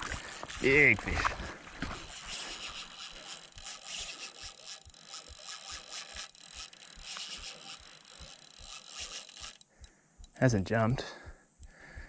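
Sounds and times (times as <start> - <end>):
fishing reel whirring: 0.0 - 10.4.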